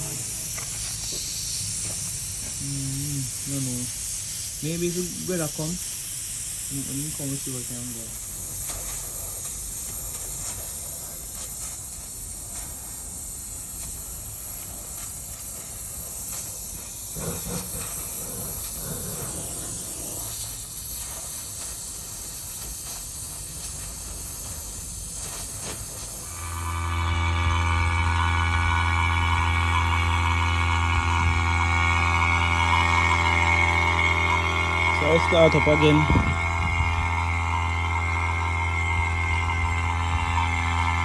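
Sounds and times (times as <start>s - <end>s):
high-pitched gas leak hiss: 0.0s - 41.0s.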